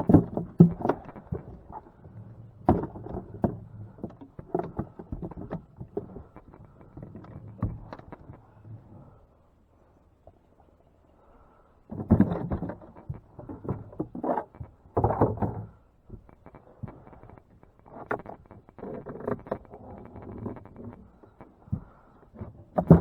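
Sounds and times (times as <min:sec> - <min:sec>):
gear knocking and clattering in boat: 0:00.0 - 0:08.4, 0:11.9 - 0:23.0.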